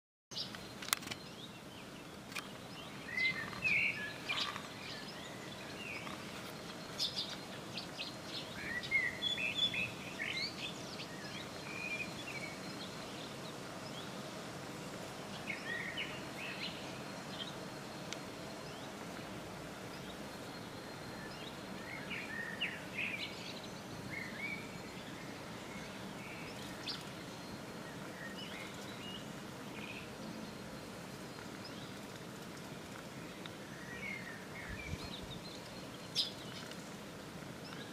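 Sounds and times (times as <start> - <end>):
outdoor background hiss: 0.3 - 37.9
small birds chirping: 0.3 - 37.9.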